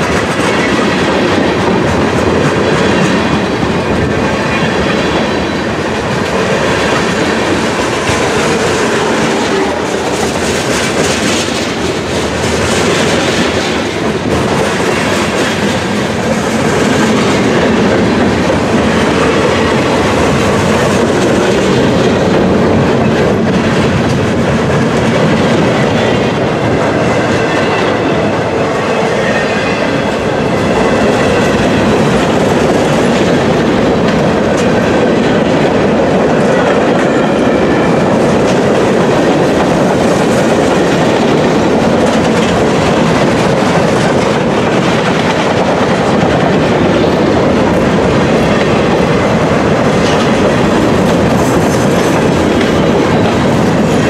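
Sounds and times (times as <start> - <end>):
freight train rumbling past: 0.0 - 54.0
steel wheels clattering on rails: 0.0 - 54.0.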